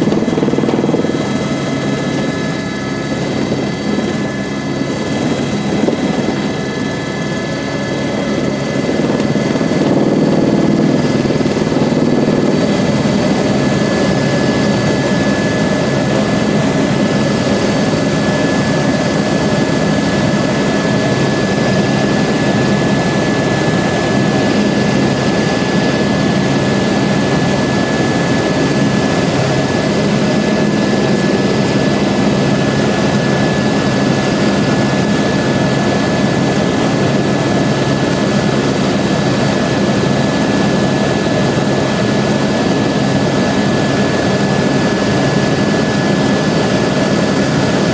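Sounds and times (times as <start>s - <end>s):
helicopter engine and rotors drone: 0.0s - 47.9s.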